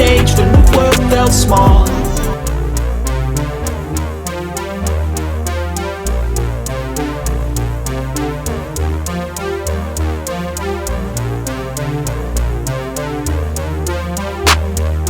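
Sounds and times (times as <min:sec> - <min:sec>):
deep synth bass line: 0:00.0 - 0:15.0
electronic instrumental music: 0:00.0 - 0:15.0
hi-hat ticks: 0:00.0 - 0:15.0.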